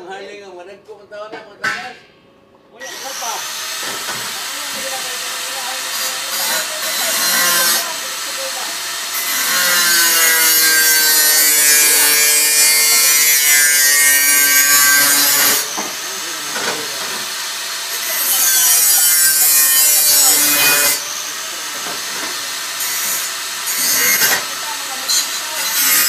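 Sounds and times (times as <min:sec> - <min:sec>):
abrasive disc cutting steel: 0:02.8 - 0:26.0.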